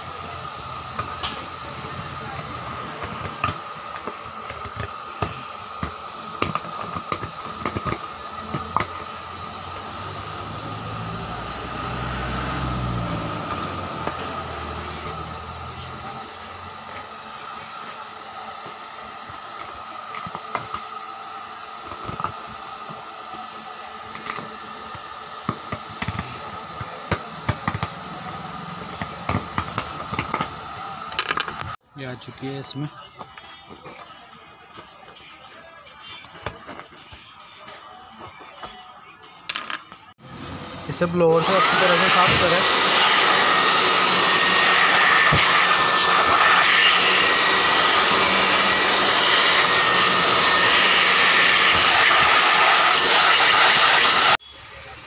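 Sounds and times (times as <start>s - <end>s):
electric drill whining: 0.0s - 31.8s, 38.0s - 54.4s.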